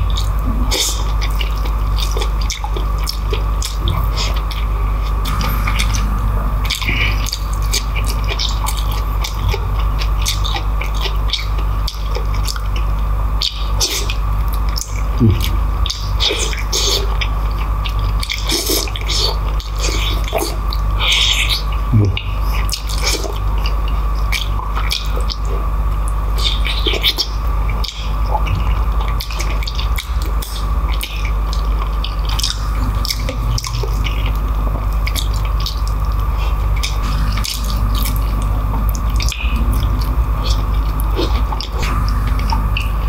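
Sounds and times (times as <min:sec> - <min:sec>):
wet chewing and lip-smacking: 0:00.0 - 0:06.0, 0:06.7 - 0:43.0
steady low hum: 0:00.0 - 0:43.0.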